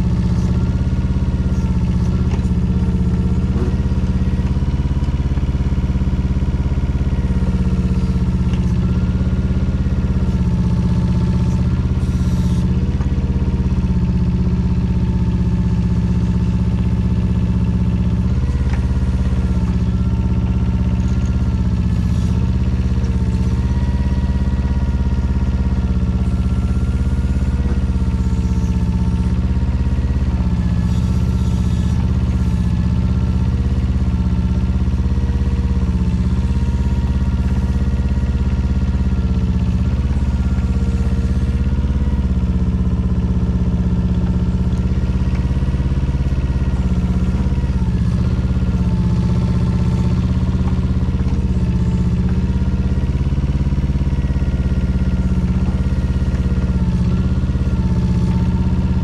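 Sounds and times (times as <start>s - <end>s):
hydraulic whine: 0.0s - 58.5s
excavator engine running: 0.0s - 59.0s.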